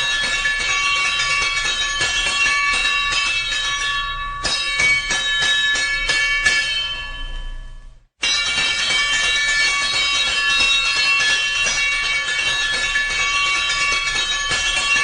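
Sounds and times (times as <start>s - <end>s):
fire alarm bell ringing: 0.0s - 15.0s.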